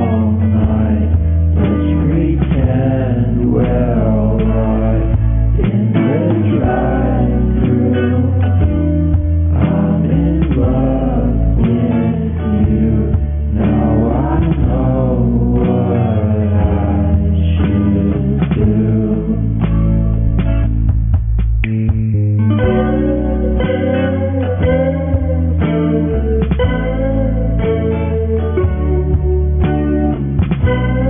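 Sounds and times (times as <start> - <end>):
wavering melody over bass notes: 0.0 - 31.0.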